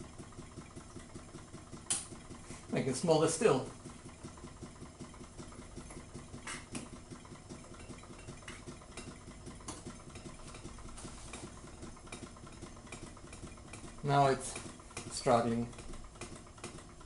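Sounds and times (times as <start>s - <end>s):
stirling engine pumping rhythm: 0.0s - 17.0s.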